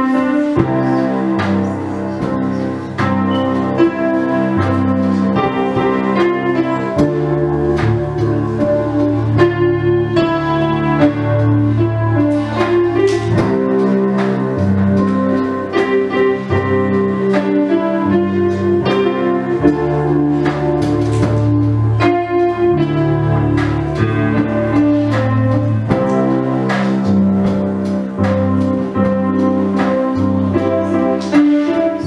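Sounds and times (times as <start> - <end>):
piano playing slow chords: 0.0 - 32.0.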